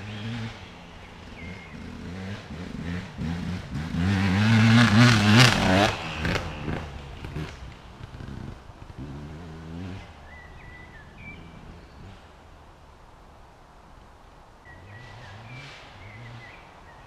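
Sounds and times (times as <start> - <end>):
birds chirping: 0.0 - 9.1, 9.8 - 12.4, 14.6 - 17.0
two-stroke motorcycle revving: 0.0 - 12.4, 14.7 - 17.0.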